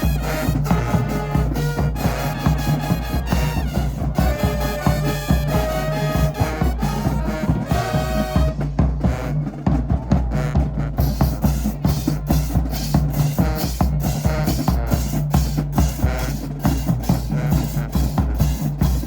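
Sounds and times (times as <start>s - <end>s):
bass drum and snare hits: 0.0s - 19.0s
marching band playing: 0.0s - 19.0s.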